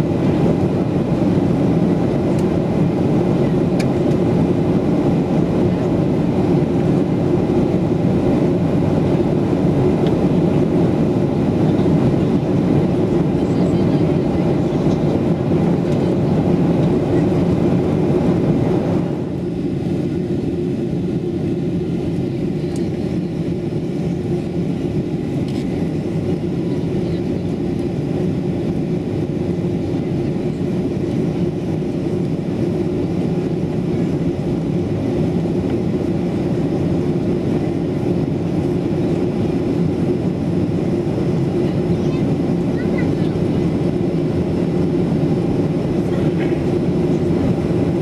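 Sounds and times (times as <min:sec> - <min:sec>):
airliner cabin airflow and engine drone: 0:00.0 - 0:48.0.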